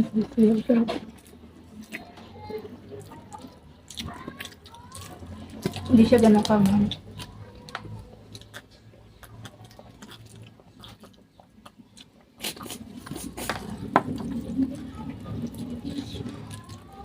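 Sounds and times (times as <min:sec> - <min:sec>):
seafood being chewed: 0:00.4 - 0:17.0.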